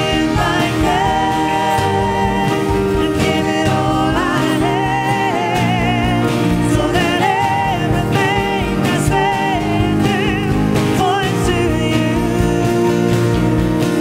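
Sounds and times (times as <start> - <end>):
woman singing with vibrato: 0.0 - 13.1
worship band playing: 0.0 - 14.0.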